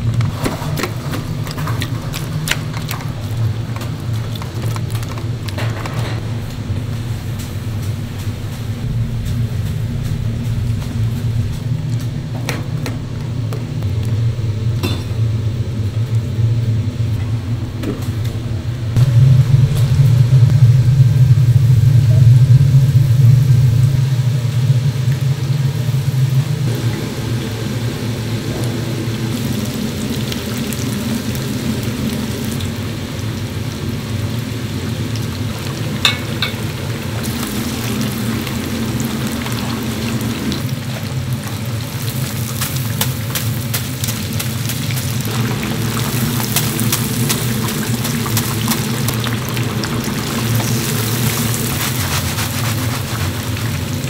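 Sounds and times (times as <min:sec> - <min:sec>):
kitchen equipment low rumble: 0:00.0 - 0:54.0.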